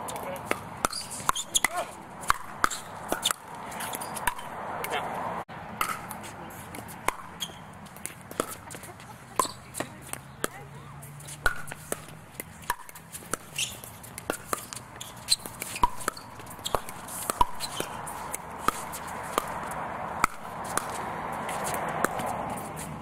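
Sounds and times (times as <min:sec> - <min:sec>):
paddles hitting plastic ball: 0:00.1 - 0:05.0, 0:05.8 - 0:10.6, 0:11.3 - 0:21.0.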